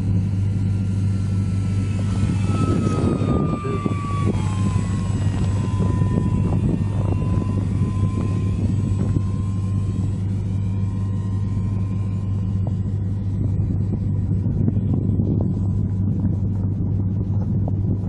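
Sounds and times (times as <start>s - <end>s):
low rumble: 0.0s - 18.0s
model plane motor drone: 0.0s - 18.0s.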